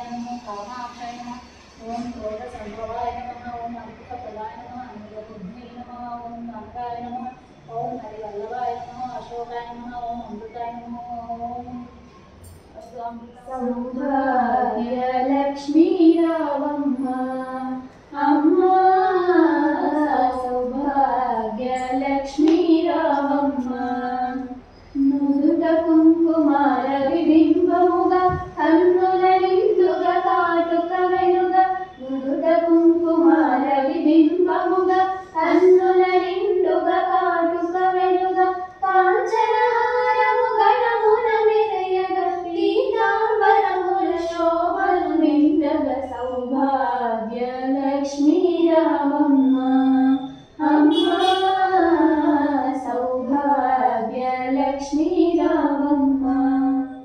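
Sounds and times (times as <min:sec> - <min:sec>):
girl singing unaccompanied: 0:00.0 - 0:12.0, 0:12.8 - 0:57.0.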